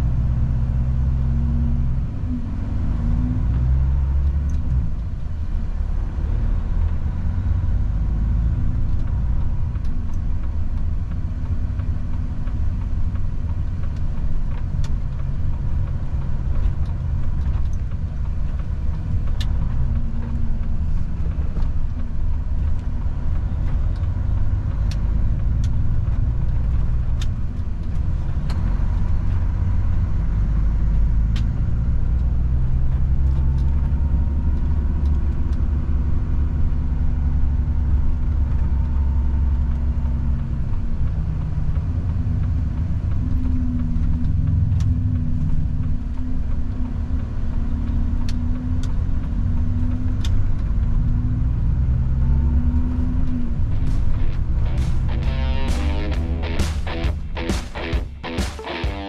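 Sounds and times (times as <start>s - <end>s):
truck engine and road rumble: 0.0s - 57.5s.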